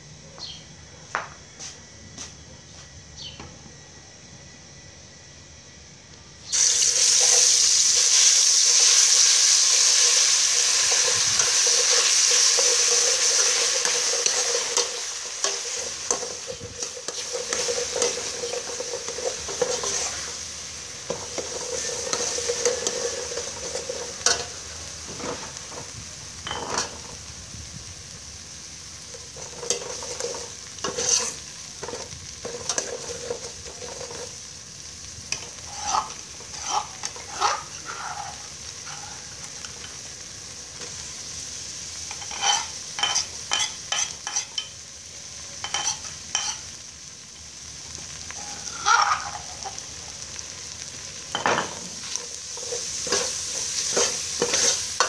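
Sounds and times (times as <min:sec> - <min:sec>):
food sizzling in oil: 0:06.4 - 0:55.0.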